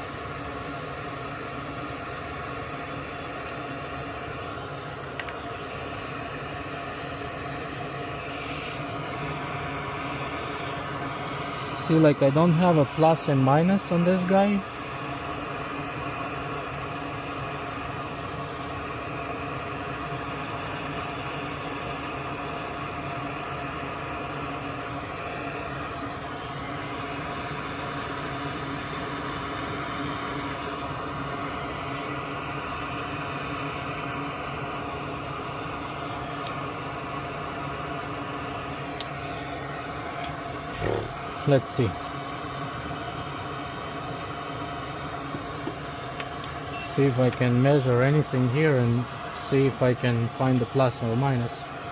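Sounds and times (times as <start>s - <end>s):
small motor whirring hum: 0.0s - 51.9s.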